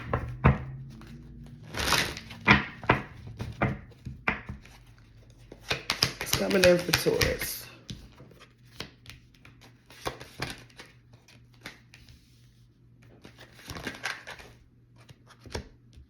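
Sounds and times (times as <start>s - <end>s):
cards being shuffled: 0.0s - 12.4s, 13.1s - 16.0s.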